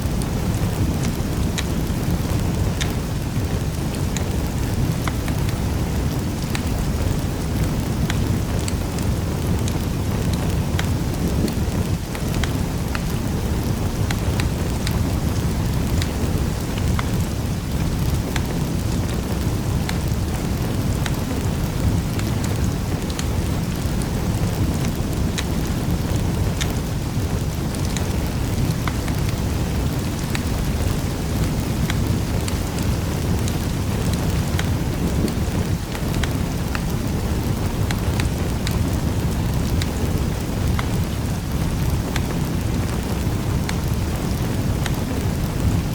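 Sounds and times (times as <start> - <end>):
fire crackling and popping: 0.0 - 45.9
low fire rumble: 0.0 - 45.9.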